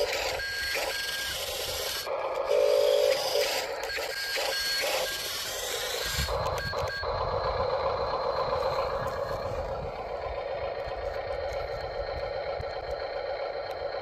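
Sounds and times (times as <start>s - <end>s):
small electric motors whirring: 0.0s - 14.0s
thin high whine: 0.0s - 14.0s.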